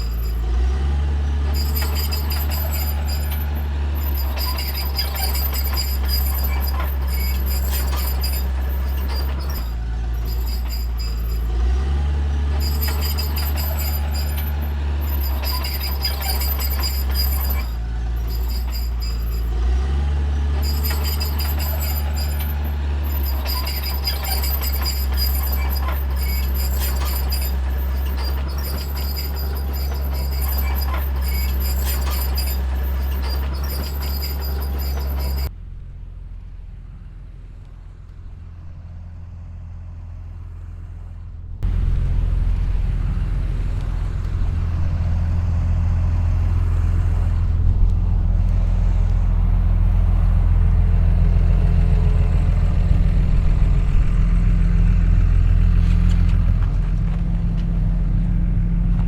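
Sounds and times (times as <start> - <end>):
heavy machine diesel engines: 0.0 - 59.0.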